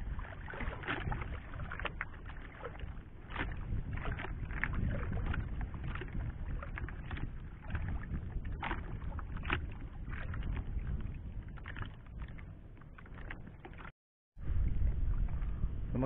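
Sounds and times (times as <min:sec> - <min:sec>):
boat knocks and splashes: 0:00.0 - 0:16.0
water lapping against hull: 0:00.0 - 0:16.0
wind on microphone: 0:00.0 - 0:16.0.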